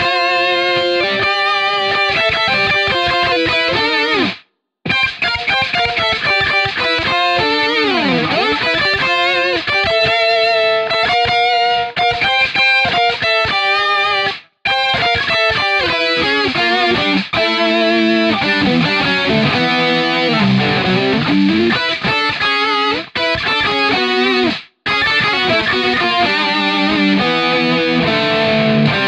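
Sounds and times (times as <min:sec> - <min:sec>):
electric guitar melody: 0:00.0 - 0:29.0.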